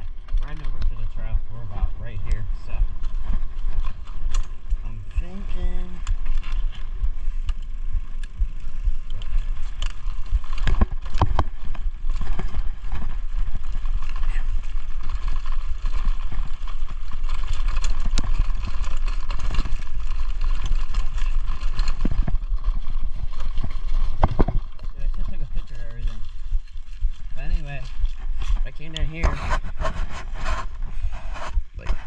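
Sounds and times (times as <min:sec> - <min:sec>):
bike knocking and rattling: 0:00.0 - 0:32.0
bike tyre noise: 0:00.0 - 0:32.0
wind rumbling on microphone: 0:00.0 - 0:32.0.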